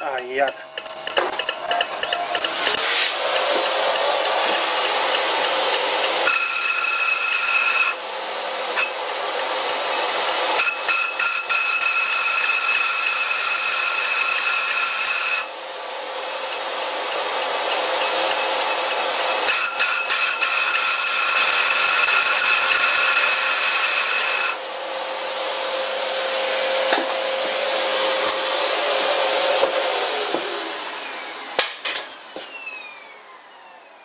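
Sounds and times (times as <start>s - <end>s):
high ringing squeal: 0.0s - 8.0s, 8.8s - 28.6s
lathe tool cutting hiss: 0.0s - 33.1s.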